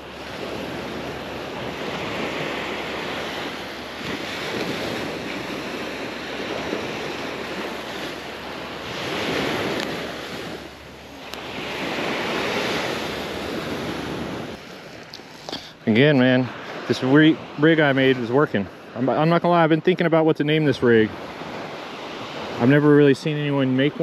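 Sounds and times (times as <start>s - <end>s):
surf waves washing on sand: 0.0s - 24.0s.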